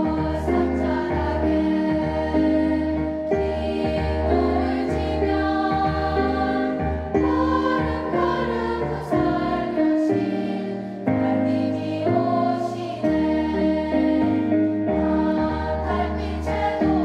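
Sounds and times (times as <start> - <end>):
children's choir singing: 0.0 - 17.0
instrumental accompaniment: 0.0 - 17.0.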